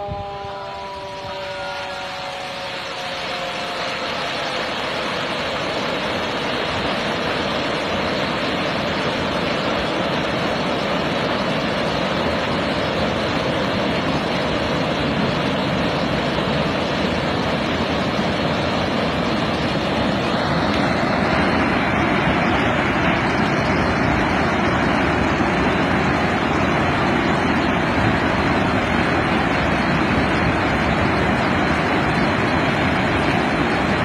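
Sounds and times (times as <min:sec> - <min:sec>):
water rushing through dam spillway: 0:00.2 - 0:34.0.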